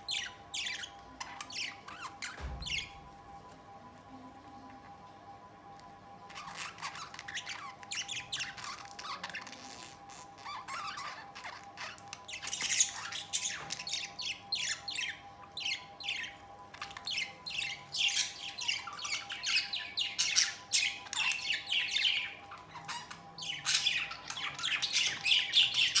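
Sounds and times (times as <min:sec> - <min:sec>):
budgerigars squawking and chattering: 0:00.0 - 0:03.1, 0:06.3 - 0:26.0.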